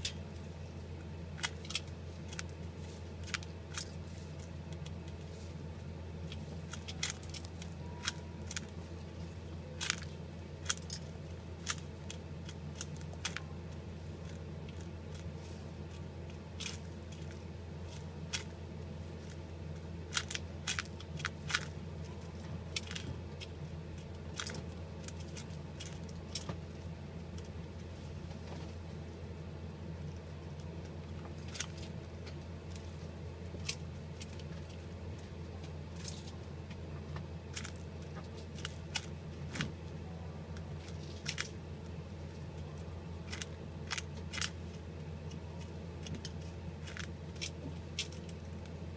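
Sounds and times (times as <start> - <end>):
low hum: 0.0 - 48.9
sharp clicks and crackles: 1.3 - 5.3, 6.2 - 8.8, 9.5 - 18.6, 19.2 - 27.6, 30.1 - 48.8.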